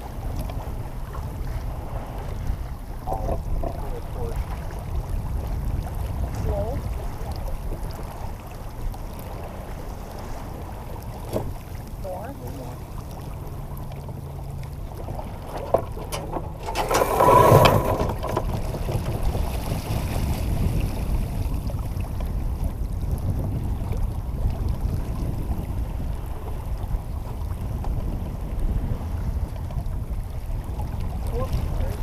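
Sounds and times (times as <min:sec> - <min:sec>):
water rushing past hull: 0:00.0 - 0:32.0
wind buffeting microphone: 0:00.0 - 0:32.0.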